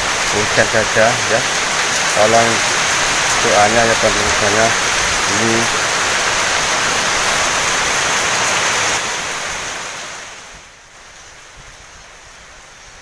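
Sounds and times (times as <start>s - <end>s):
heavy wind-driven rain: 0.0s - 13.0s.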